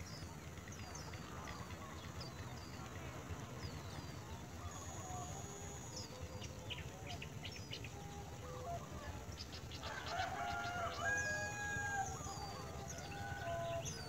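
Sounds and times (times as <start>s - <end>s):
birds chirping and whistling: 0.0s - 14.0s
low held bird calls: 0.0s - 14.0s.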